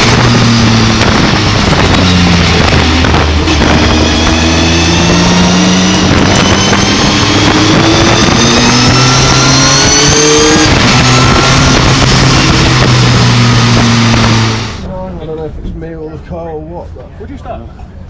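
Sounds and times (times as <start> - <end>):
truck engine revving: 0.0 - 14.9.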